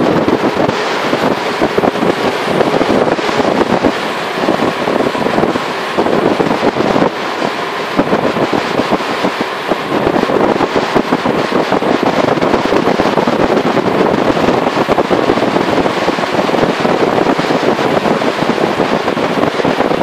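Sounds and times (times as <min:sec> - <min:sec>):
loud wind rush on microphone: 0:00.0 - 0:20.0.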